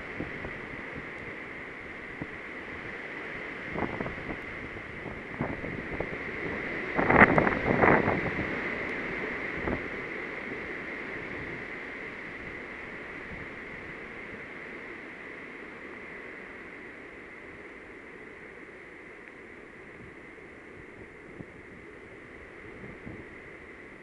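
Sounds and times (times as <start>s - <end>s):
wind and rain rushing: 0.0s - 24.0s.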